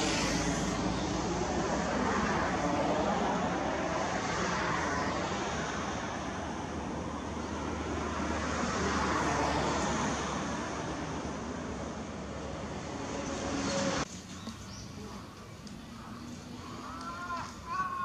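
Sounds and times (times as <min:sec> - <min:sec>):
road traffic roar: 0:00.0 - 0:18.0.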